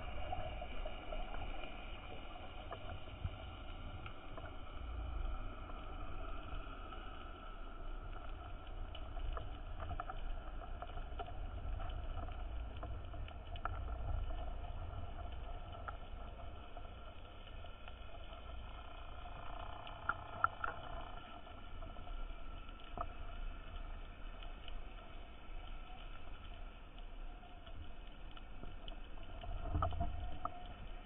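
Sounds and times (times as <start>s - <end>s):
clicks and crackles: 0.0s - 31.0s
faint steady tones: 0.0s - 31.0s
low underwater rumble: 0.0s - 31.0s.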